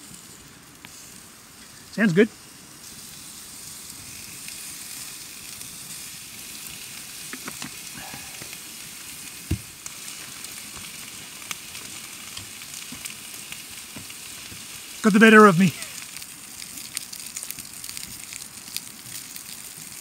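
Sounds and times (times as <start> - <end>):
meat sizzling on grill: 0.0 - 20.0.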